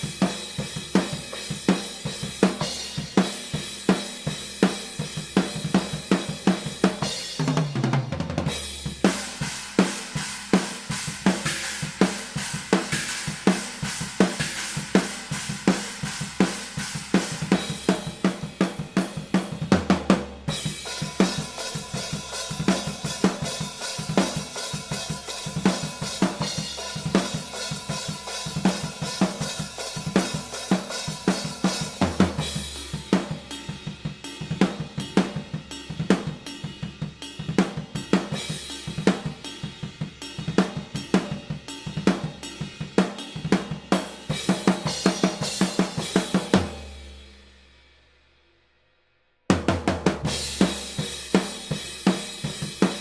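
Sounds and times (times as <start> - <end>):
acoustic drum kit groove: 0.0 - 47.6, 49.5 - 53.0.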